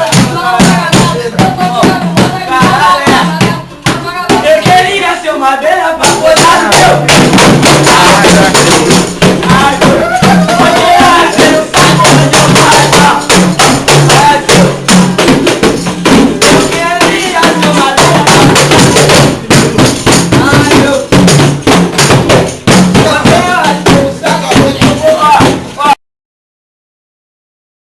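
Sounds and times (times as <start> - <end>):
fast hand percussion: 0.0 - 26.0
voices singing: 0.0 - 26.0.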